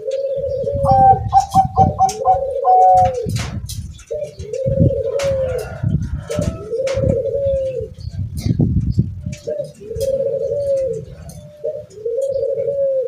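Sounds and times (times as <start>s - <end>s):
dove cooing in trilled phrases: 0.0s - 8.6s, 9.2s - 13.0s
wind rumbling on microphone: 0.0s - 13.0s.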